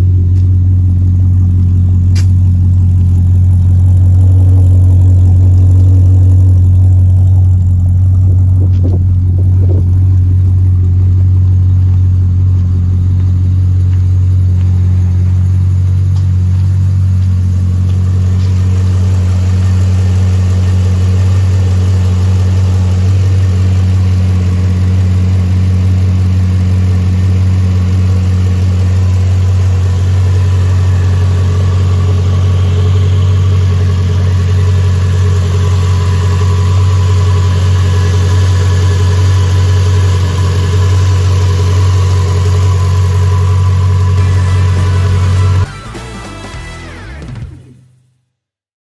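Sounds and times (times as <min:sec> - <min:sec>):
car engine idling: 0:00.0 - 0:48.1.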